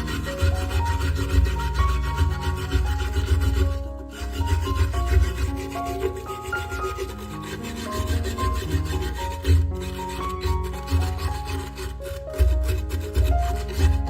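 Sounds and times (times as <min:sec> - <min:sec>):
scratchy rubbing noise: 0:00.0 - 0:14.0.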